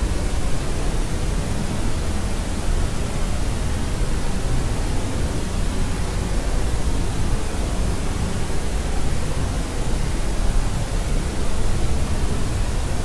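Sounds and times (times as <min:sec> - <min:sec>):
steady low white noise hiss: 0:00.0 - 0:13.0.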